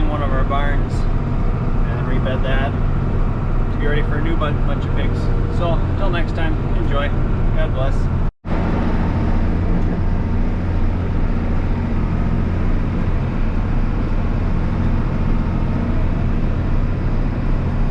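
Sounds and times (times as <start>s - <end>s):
heavy vehicle engine running: 0.0s - 17.9s.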